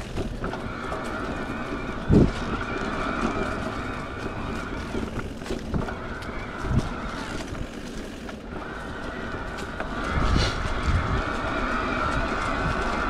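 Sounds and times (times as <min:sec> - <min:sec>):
electric motor whine: 0:00.0 - 0:13.0
tyres rolling on dirt trail: 0:00.0 - 0:13.0.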